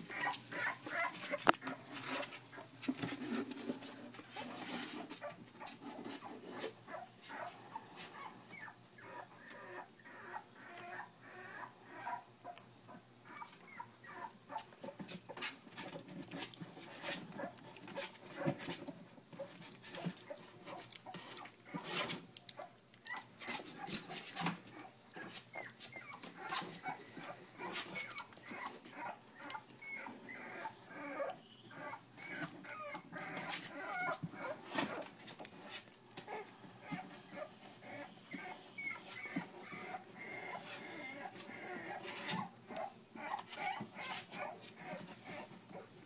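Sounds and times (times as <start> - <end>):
puppies whimpering and squeaking: 0.0 - 3.8, 4.4 - 46.0.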